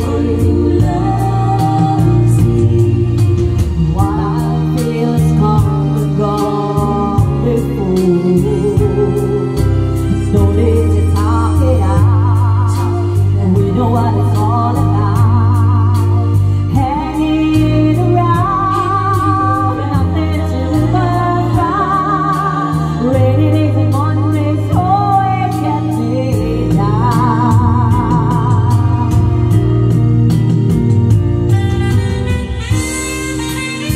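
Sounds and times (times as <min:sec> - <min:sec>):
person singing with vibrato: 0:00.0 - 0:29.9
sustained bass notes: 0:00.0 - 0:33.9.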